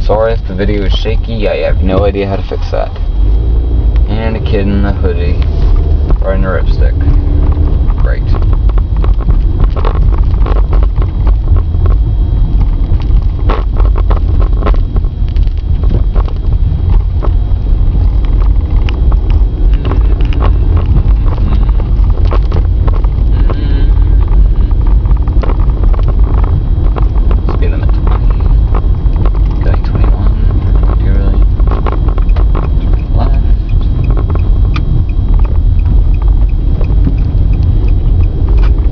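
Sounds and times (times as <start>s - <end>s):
car driving rumble from cabin: 0.0s - 38.9s
sharp clicks and rattles: 0.0s - 38.9s.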